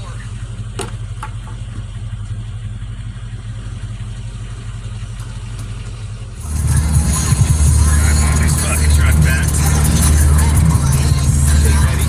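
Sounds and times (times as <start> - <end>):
boat engine idling and revving: 0.0 - 12.0.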